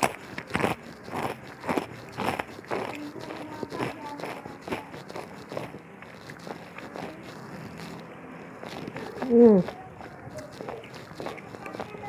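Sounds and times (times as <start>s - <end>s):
chewing crisp fried food: 0.0s - 12.0s.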